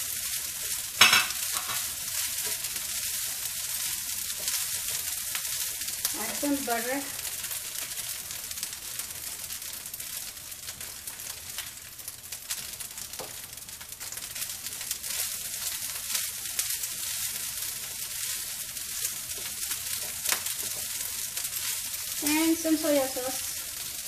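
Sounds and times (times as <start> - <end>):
rice sizzling in a frying pan: 0.0 - 24.0.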